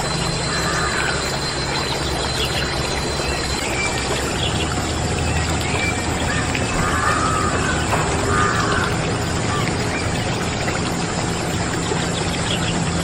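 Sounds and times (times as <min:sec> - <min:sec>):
low hum: 0:00.0 - 0:13.0
running water: 0:00.0 - 0:13.0.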